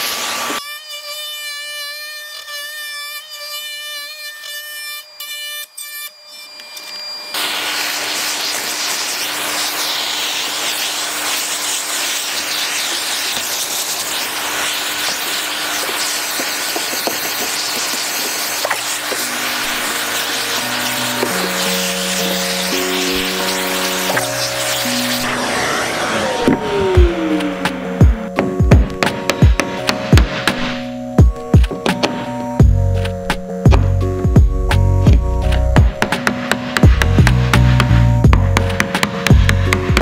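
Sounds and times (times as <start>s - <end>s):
router cutting wood: 0.0s - 40.0s.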